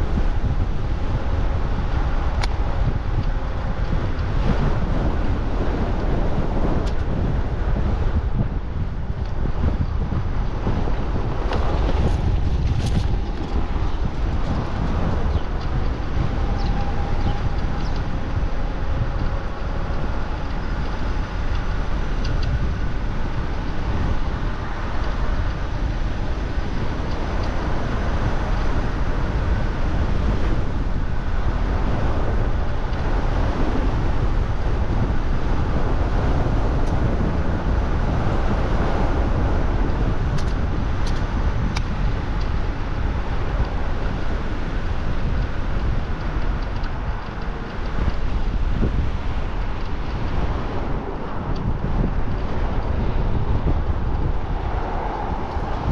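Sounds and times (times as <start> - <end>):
road noise: 0.0 - 55.9
wind buffeting microphone: 0.0 - 55.9.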